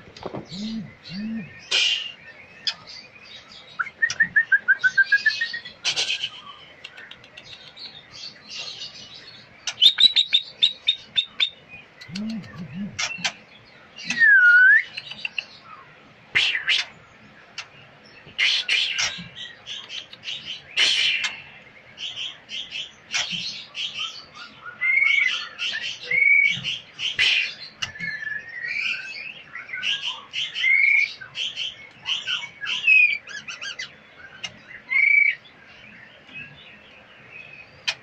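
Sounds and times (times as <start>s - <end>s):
songbirds chirping and singing: 0.0s - 38.0s.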